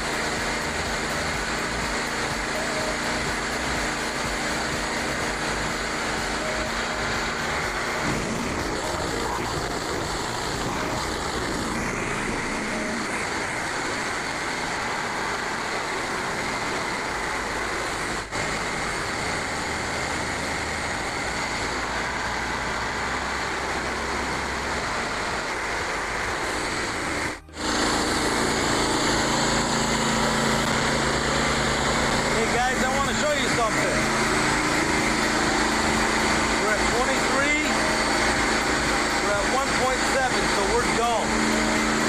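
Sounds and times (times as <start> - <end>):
band sawmill blade cutting wood: 0.0 - 42.0
sawmill engine hum: 0.0 - 42.0.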